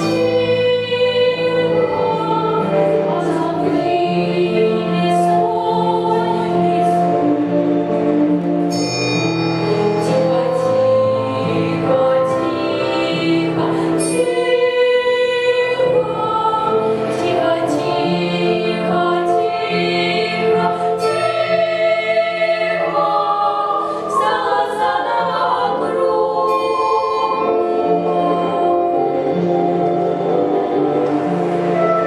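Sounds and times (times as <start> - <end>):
children's choir singing: 0.0 - 8.7, 9.8 - 32.0
instrumental accompaniment with bass: 0.0 - 32.0.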